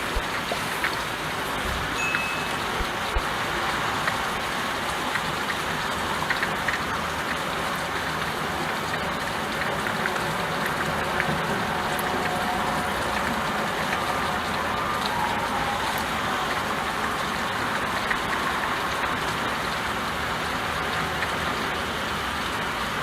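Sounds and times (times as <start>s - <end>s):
rain on window glass: 0.0s - 23.0s
raindrops ticking: 0.0s - 23.0s.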